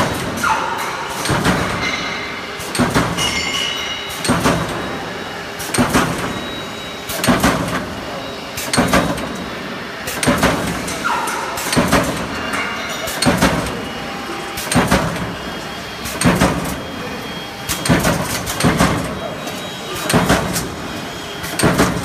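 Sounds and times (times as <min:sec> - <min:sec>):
power press metallic clunk: 0:00.0 - 0:07.9, 0:08.6 - 0:09.5, 0:10.1 - 0:13.9, 0:14.5 - 0:16.9, 0:17.6 - 0:22.0
machinery running noise: 0:00.0 - 0:22.0.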